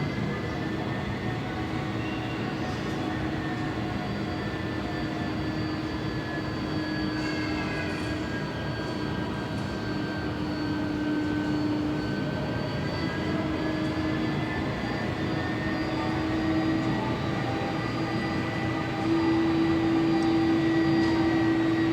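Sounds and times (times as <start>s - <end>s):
jet engines whining: 0.0s - 21.9s.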